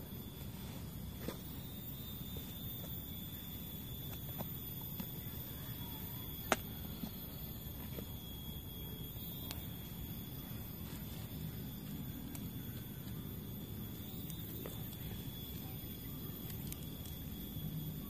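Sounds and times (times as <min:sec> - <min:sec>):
campfire crackling: 0:00.0 - 0:18.0
thin high tone: 0:00.0 - 0:18.0.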